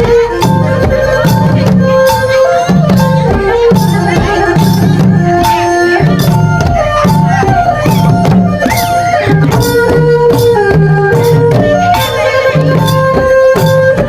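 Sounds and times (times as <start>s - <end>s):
drums keeping steady rhythm: 0.0s - 14.0s.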